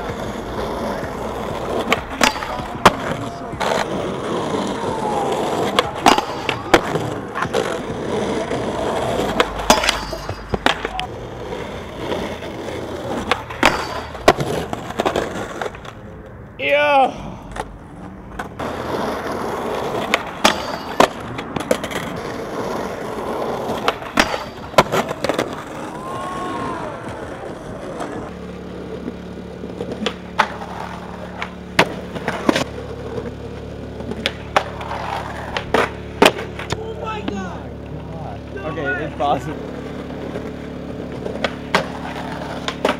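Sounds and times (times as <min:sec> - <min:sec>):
skateboard clacks: 0:00.0 - 0:16.4, 0:17.0 - 0:38.6, 0:39.3 - 0:42.9
skateboard wheels rolling on concrete: 0:00.0 - 0:42.9.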